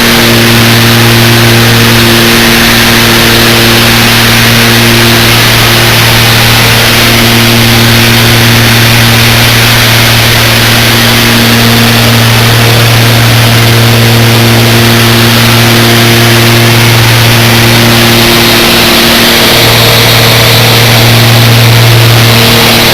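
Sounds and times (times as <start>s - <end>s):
loud engine drone: 0.0s - 22.9s.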